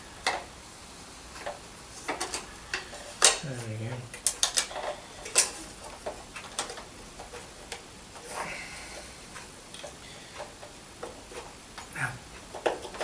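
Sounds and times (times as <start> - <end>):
vacuum cleaner parts clicking: 1.4 - 13.0.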